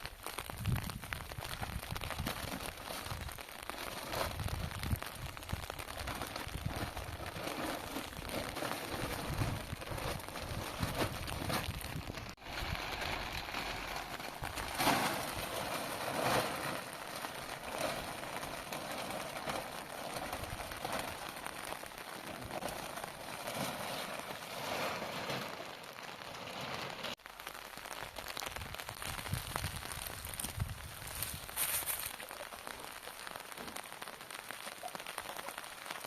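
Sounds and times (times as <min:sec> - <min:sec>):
rain pattering: 0:00.0 - 0:36.0.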